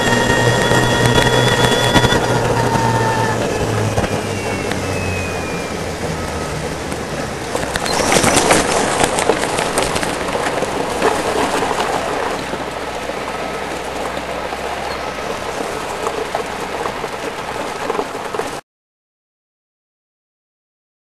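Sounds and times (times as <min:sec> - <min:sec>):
crackles: 0:00.0 - 0:18.6
wind and road noise: 0:00.0 - 0:18.6.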